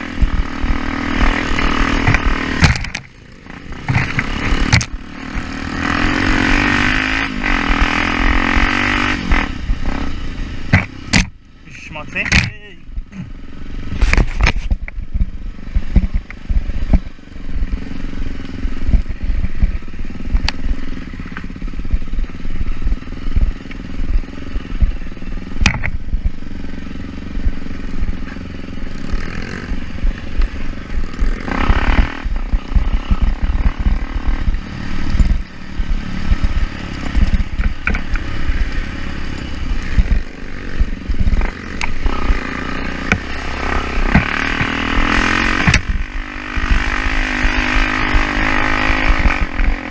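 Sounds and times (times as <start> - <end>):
low thumps and knocks: 0.0 - 5.6, 10.7 - 11.4, 13.9 - 17.9, 18.7 - 26.4, 27.4 - 49.9
off-road motorcycle engine running: 0.0 - 49.9.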